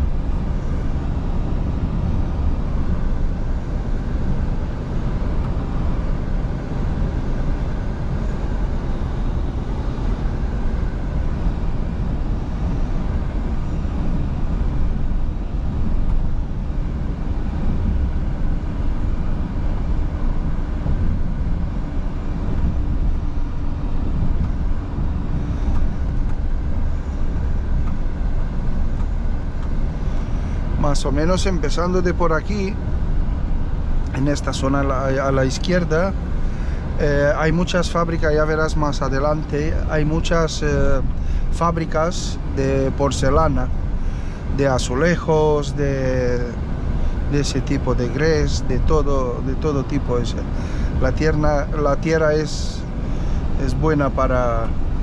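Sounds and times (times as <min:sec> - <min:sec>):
road and tyre noise: 0:00.0 - 0:55.0
steady hum: 0:00.0 - 0:55.0
truck engine drone: 0:00.0 - 0:55.0.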